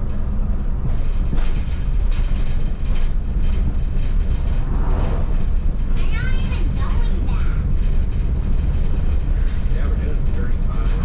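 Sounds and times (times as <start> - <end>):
diesel engine and tyres rumbling: 0.0 - 11.0.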